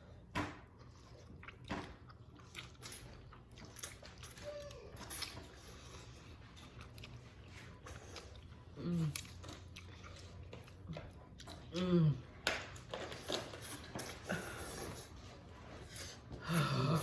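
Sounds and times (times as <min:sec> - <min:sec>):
people eating noodles: 0:00.7 - 0:17.0.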